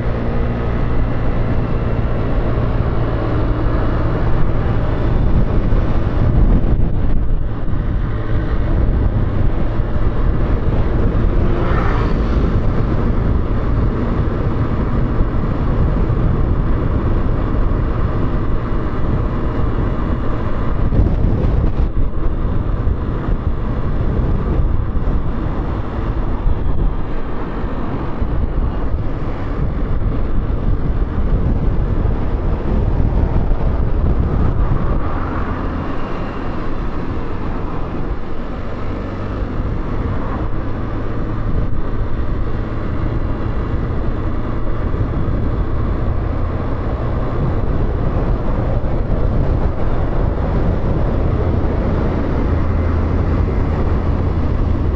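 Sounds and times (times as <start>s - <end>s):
motorcycle engine running: 0.0s - 54.9s
wind rush on microphone: 0.0s - 54.9s.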